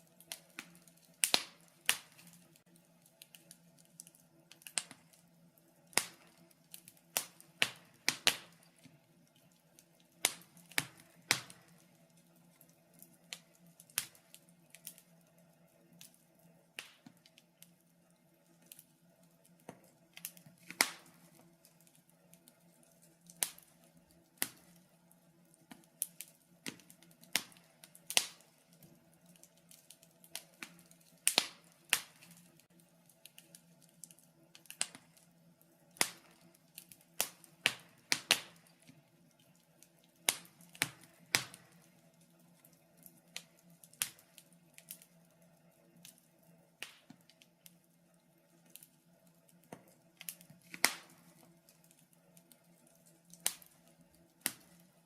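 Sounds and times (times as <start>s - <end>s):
faint steady hum: 0.0s - 55.0s
fireplace fire crackling: 0.0s - 55.0s.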